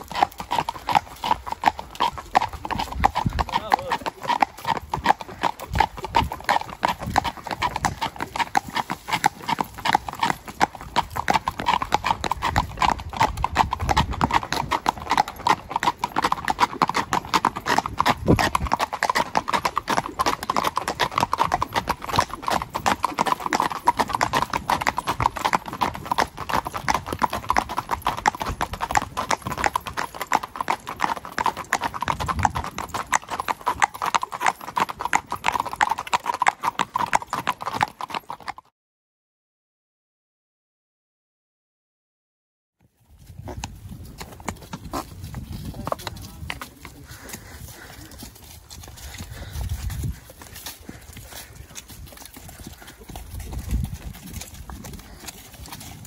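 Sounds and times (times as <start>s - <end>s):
horse hooves on pavement: 0.0s - 38.7s, 42.8s - 56.0s.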